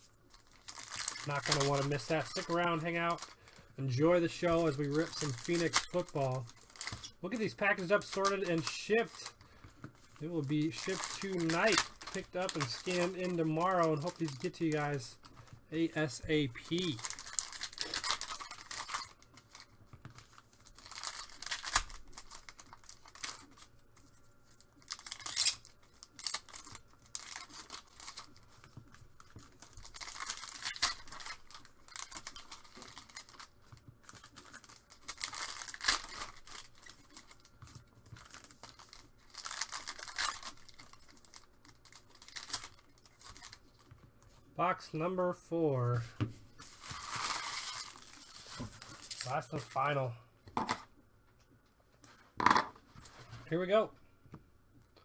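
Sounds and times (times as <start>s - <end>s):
plastic wrapping tearing and crinkling: 0.0s - 44.0s, 46.5s - 50.0s.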